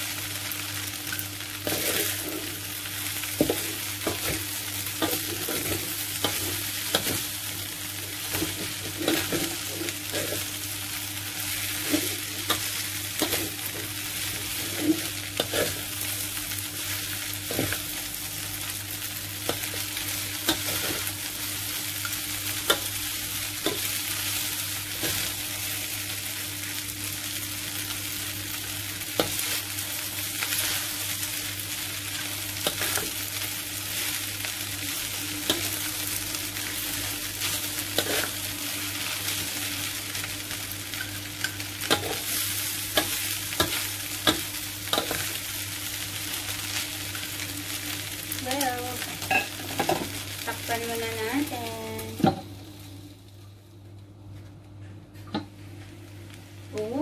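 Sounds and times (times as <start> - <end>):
noodles sizzling in a wok: 0.0 - 53.7, 55.5 - 57.0.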